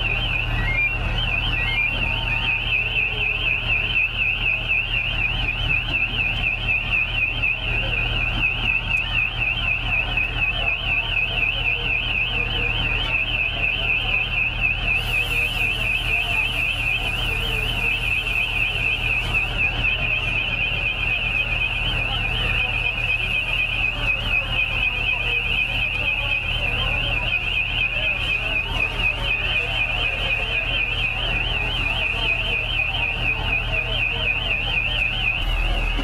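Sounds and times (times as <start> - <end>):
warbling electronic alarm: 0.0 - 36.0.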